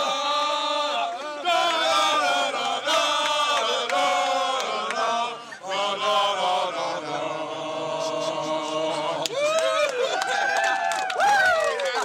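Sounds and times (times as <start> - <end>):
men chanting in unison: 0.0 - 9.8.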